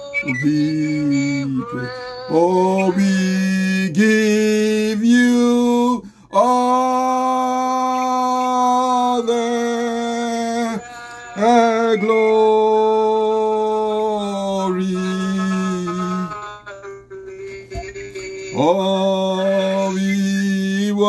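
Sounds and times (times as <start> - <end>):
man singing slow worship song: 0.2 - 16.4, 18.5 - 21.0.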